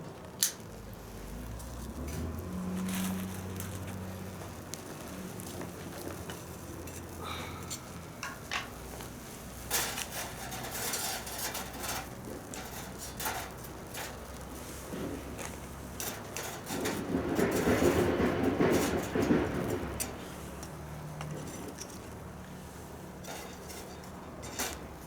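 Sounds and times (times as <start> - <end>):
fire crackling: 0.0 - 25.0.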